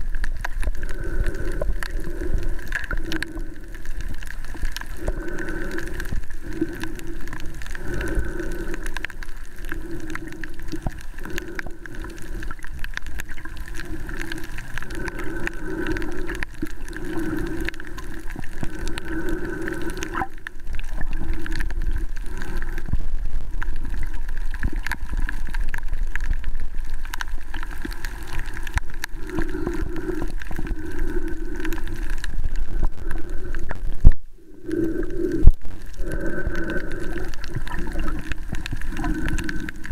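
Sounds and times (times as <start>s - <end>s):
dense crackle of fine clicks: 0.0s - 39.9s
watery hiss: 0.7s - 23.0s, 27.8s - 39.9s.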